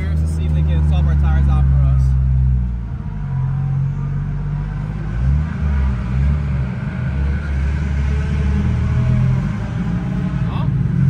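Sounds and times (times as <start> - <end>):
car engine droning at low revs: 0.0 - 11.0.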